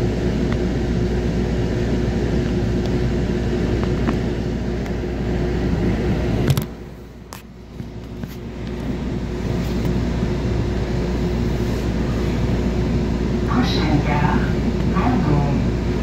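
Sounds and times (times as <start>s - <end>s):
train running noise: 0.0s - 16.0s.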